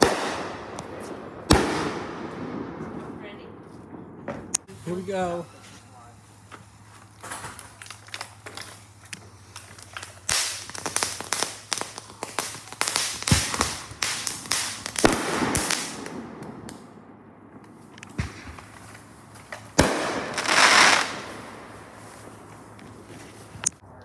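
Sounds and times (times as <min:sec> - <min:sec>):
fireworks popping and crackling: 0:00.0 - 0:16.9, 0:17.5 - 0:23.8
fireworks bangs: 0:00.0 - 0:23.6.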